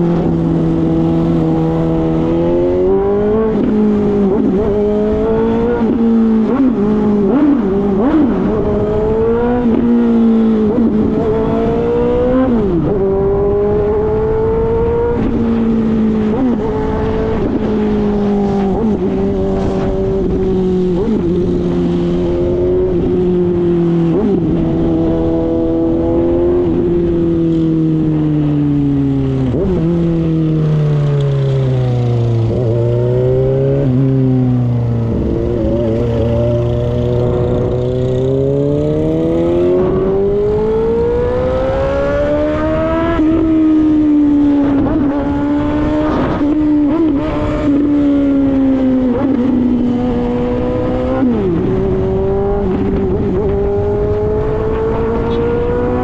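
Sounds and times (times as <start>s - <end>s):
motorcycle engine loud exhaust: 0.0s - 56.0s.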